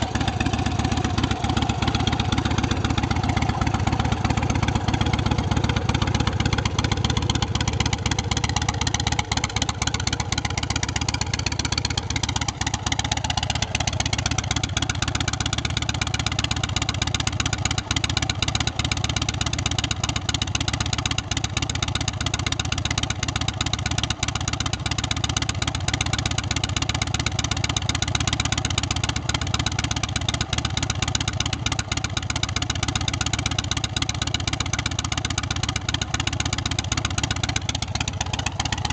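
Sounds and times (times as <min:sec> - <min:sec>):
motorcycle v-twin engine running: 0:00.0 - 0:38.9.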